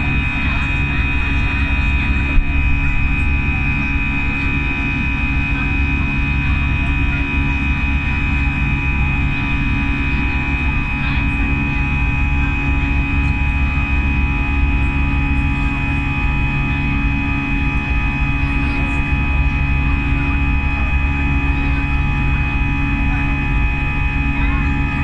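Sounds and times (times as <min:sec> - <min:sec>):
aircraft engines droning: 0:00.0 - 0:25.0.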